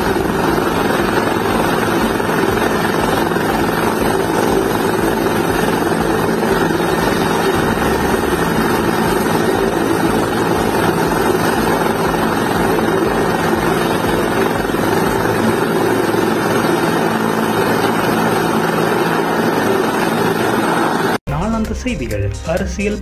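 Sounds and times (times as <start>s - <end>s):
helicopter turbine and rotor: 0.0s - 21.2s.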